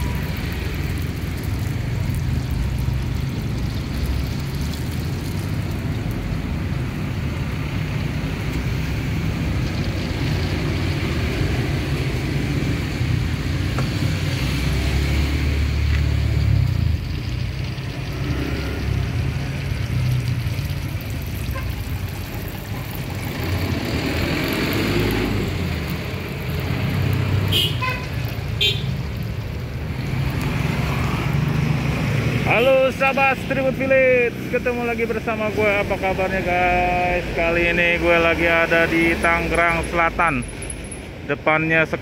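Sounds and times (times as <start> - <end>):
oil frying in a wok: 0.0 - 39.2
low rumble of roadside traffic: 0.0 - 42.0.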